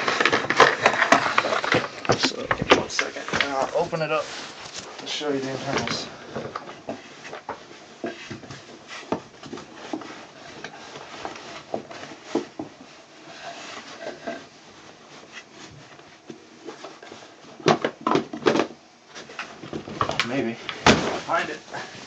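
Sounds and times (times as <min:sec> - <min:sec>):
rummaging through objects: 0:00.0 - 0:22.0.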